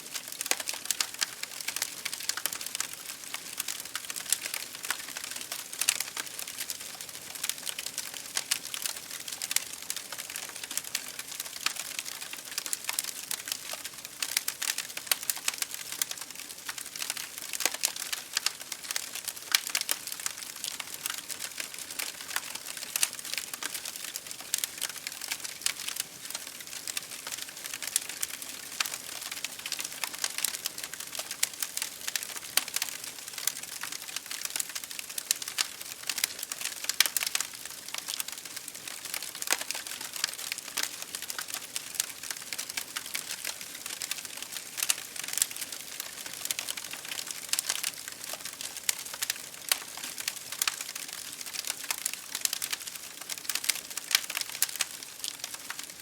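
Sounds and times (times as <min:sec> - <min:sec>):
rain hitting a window: 0:00.1 - 0:07.0, 0:07.7 - 0:56.0
wood fire crackling: 0:00.1 - 0:56.0.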